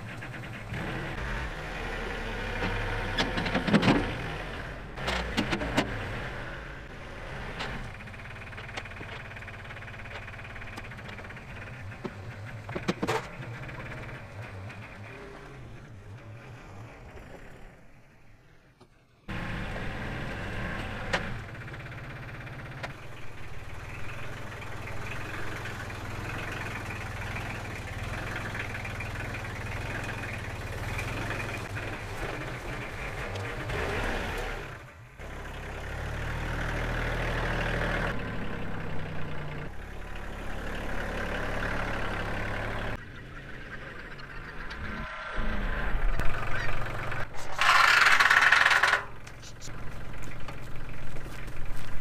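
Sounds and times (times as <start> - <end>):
tractor diesel engine running: 0.0 - 18.7, 19.3 - 52.0.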